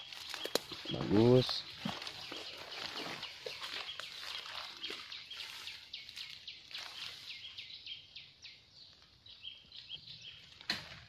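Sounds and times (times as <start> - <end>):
birds chirping: 0.0 - 10.7
rustling of leafy undergrowth: 0.0 - 11.0.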